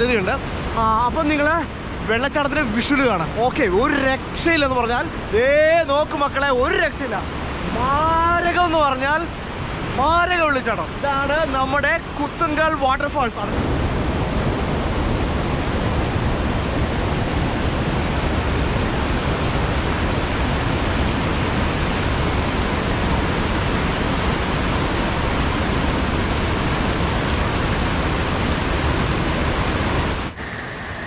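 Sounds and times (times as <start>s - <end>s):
waterfall and river rushing: 0.0s - 31.0s.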